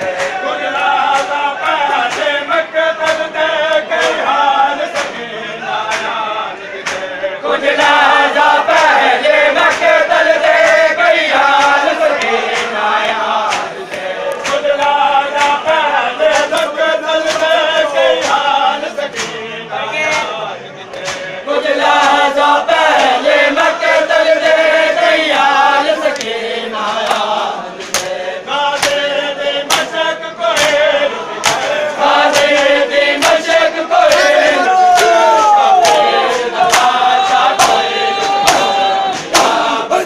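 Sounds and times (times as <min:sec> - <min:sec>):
hands slapping bare chests: 0:00.0 - 0:02.4, 0:03.0 - 0:05.2, 0:05.8 - 0:06.2, 0:06.8 - 0:07.1, 0:07.8 - 0:19.4, 0:20.1 - 0:23.2, 0:26.1 - 0:26.4, 0:27.0 - 0:39.7
men chanting together: 0:00.0 - 0:40.0.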